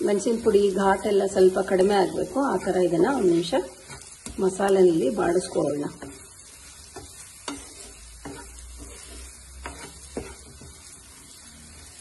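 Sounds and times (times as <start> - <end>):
spices sizzling in oil: 0.0 - 12.0
wooden spatula scraping a pan: 0.0 - 12.0.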